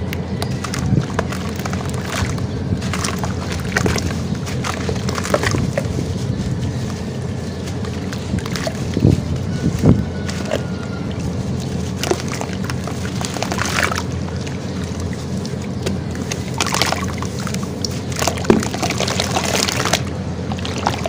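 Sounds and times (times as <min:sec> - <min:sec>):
steady low rumble: 0:00.0 - 0:21.0
water sloshing: 0:00.0 - 0:21.0.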